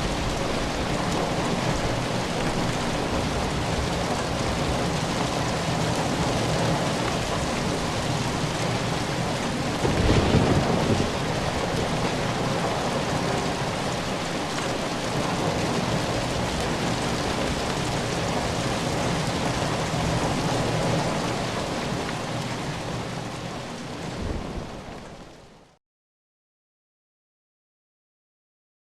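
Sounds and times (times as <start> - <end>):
heavy rain: 0.0 - 25.8.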